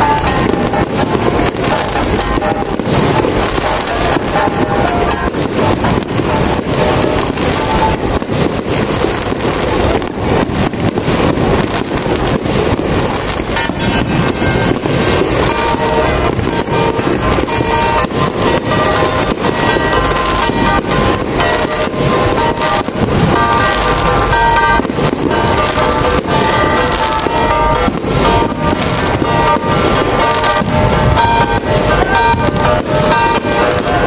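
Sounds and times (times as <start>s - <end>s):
fireworks bangs and crackles: 0.0s - 34.0s
music playing: 0.0s - 34.0s.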